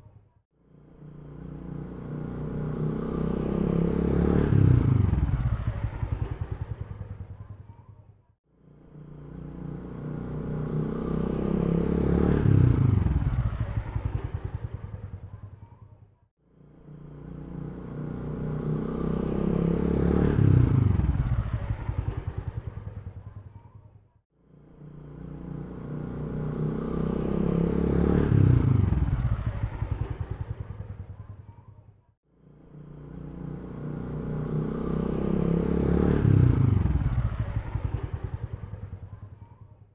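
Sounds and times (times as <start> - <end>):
vehicle engine passing by: 0.8 - 7.6, 8.6 - 15.5, 16.6 - 23.7, 24.6 - 31.7, 32.4 - 39.6.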